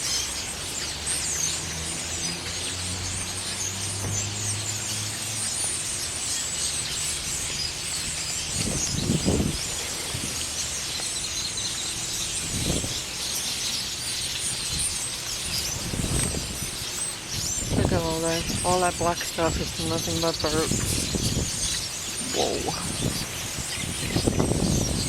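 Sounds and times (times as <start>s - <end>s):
flock of birds chattering: 0.0s - 25.0s.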